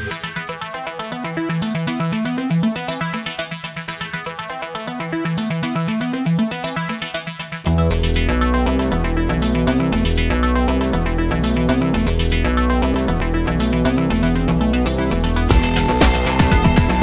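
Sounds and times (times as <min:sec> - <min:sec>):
electronic synthesizer music: 0:00.0 - 0:17.0.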